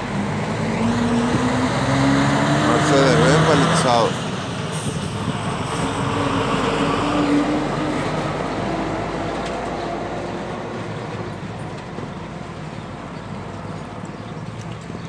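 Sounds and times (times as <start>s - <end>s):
truck diesel engine passing: 0.0s - 15.0s.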